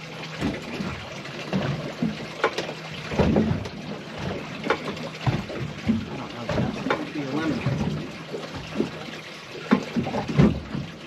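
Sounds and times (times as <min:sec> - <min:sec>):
knocks and splashes: 0:00.0 - 0:11.0
water slapping against boat hull: 0:00.0 - 0:11.0.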